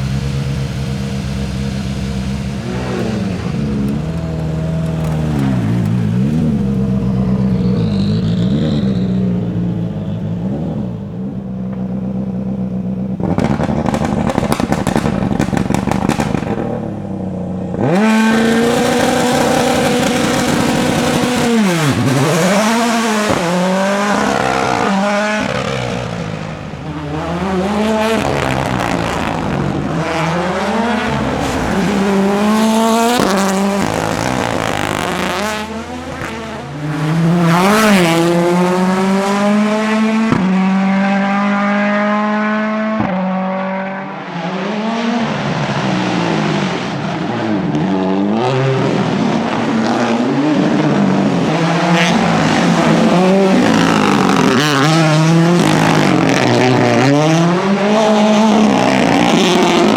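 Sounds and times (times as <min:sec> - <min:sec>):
exhaust popping crackle: 0:00.0 - 0:40.8, 0:47.6 - 0:59.9
rally car engine revving: 0:00.0 - 0:59.9.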